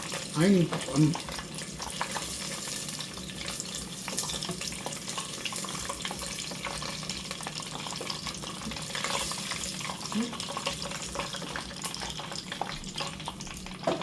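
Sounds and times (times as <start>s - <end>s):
deep-frying sizzle and crackle: 0.0s - 14.0s.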